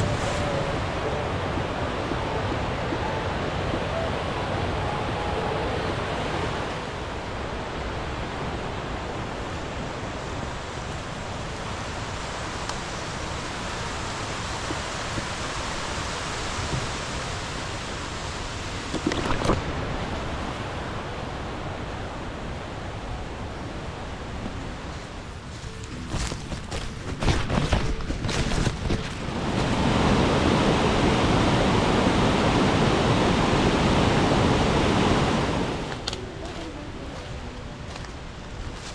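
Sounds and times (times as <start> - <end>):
waterfall rushing: 0.0 - 23.3, 29.3 - 38.0.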